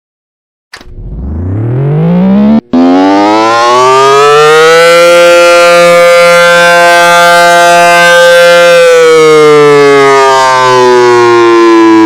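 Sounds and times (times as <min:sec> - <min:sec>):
warning siren winding up: 0:00.8 - 0:12.0.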